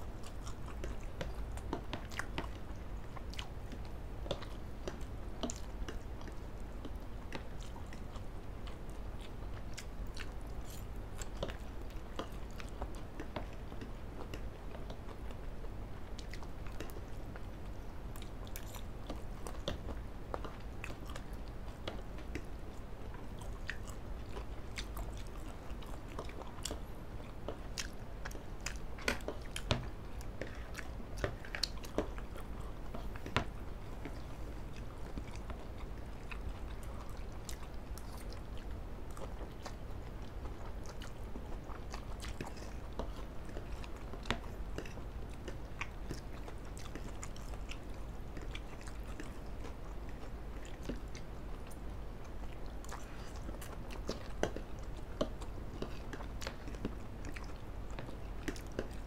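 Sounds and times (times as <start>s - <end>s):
people chewing food: 0.0s - 59.0s.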